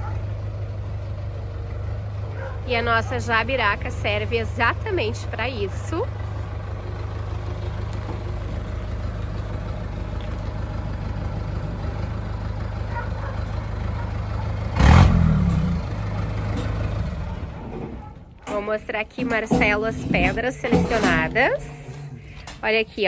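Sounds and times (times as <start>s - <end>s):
engine running at low revs: 0.0s - 18.5s.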